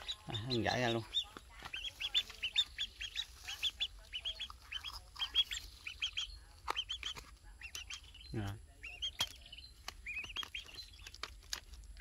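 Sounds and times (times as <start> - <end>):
duckling peeping: 0.0 - 12.0.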